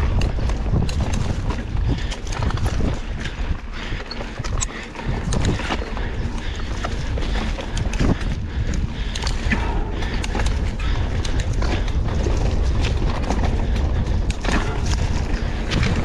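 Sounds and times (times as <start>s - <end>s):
bike clicks and rattles: 0.0s - 16.0s
wind rushing over microphone: 0.0s - 16.0s.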